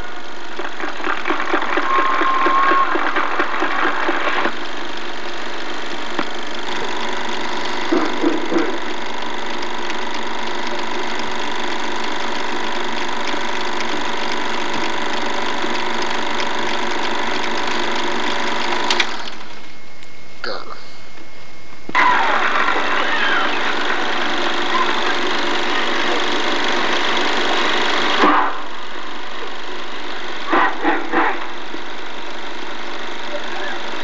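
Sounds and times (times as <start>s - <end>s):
film projector whirring: 0.0s - 20.2s, 21.2s - 34.0s.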